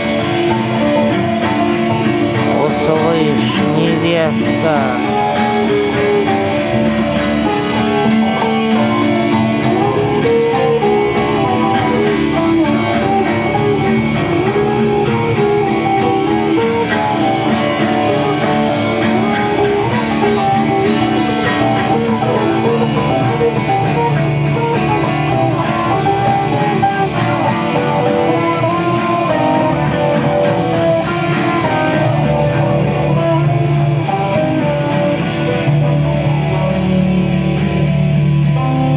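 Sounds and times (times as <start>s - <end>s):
acoustic guitar strumming: 0.0s - 38.9s
electric guitar playing notes: 0.0s - 38.9s.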